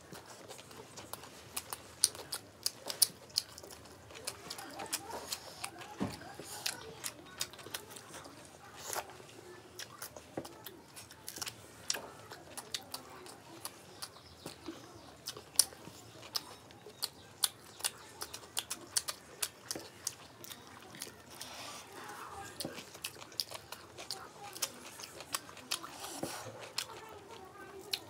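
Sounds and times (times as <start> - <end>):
chewing mouth clicks and smacks: 0.1 - 21.6, 22.4 - 28.0.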